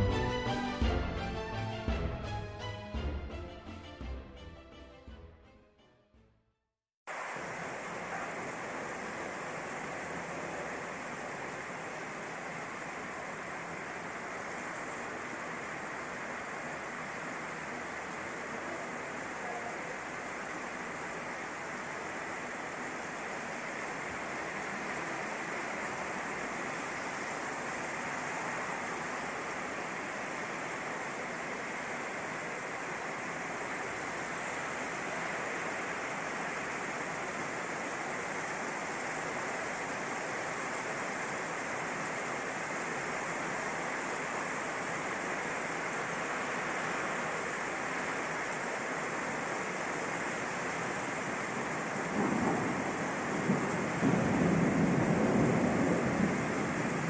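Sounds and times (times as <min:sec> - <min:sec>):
heavy rain pouring: 0:00.0 - 0:05.0, 0:07.1 - 0:57.0.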